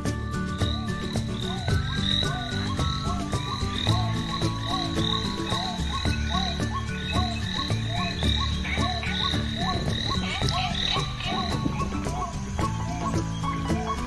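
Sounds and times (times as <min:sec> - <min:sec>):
high chirps: 0:00.0 - 0:14.0
frogs croaking: 0:00.7 - 0:14.0.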